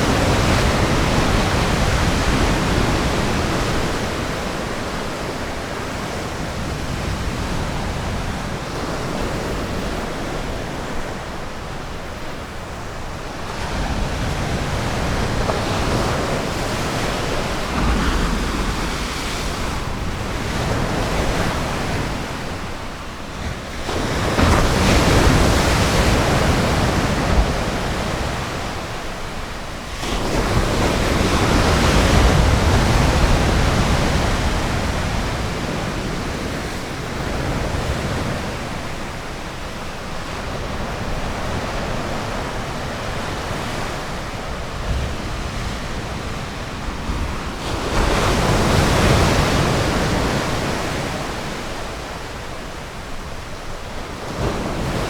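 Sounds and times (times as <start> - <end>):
ocean surf washing onto beach: 0.0 - 55.0.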